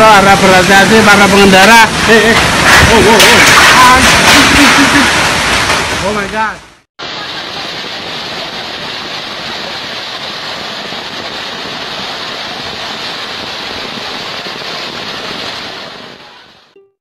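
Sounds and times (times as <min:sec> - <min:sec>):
hail and heavy rain on pavement: 0:00.0 - 0:16.7.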